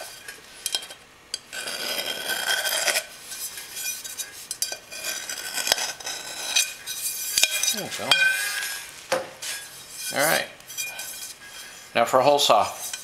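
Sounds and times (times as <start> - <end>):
metal scrape: 0.0 - 13.0.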